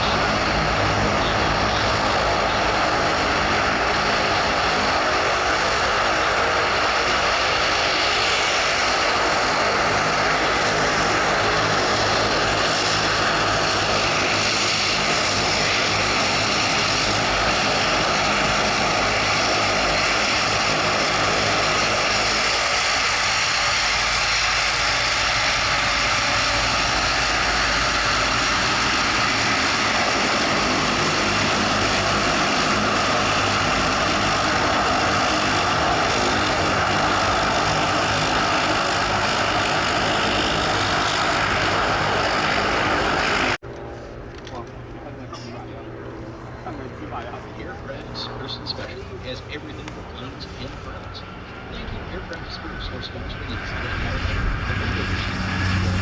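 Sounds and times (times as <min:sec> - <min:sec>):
turboprop propeller drone: 0:00.0 - 0:56.0.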